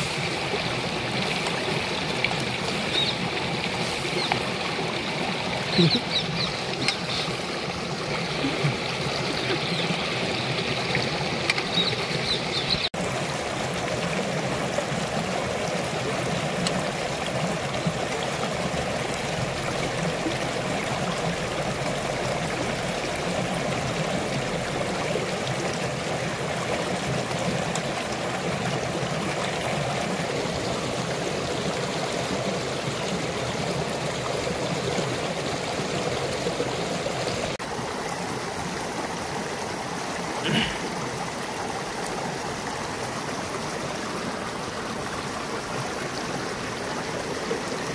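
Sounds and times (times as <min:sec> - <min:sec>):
stream splashing over stones: 0:00.0 - 0:47.9.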